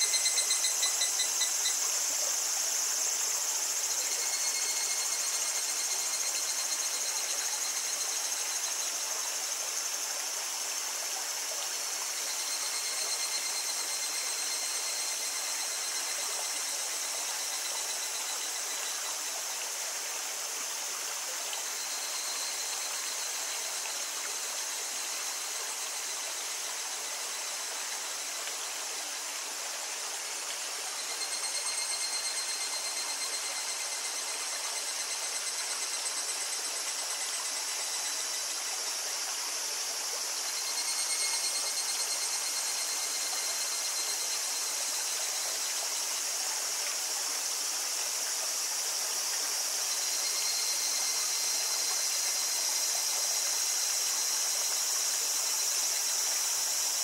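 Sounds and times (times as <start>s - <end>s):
cicadas chorus: 0.0s - 57.0s
pulsing cicada call: 0.0s - 57.0s.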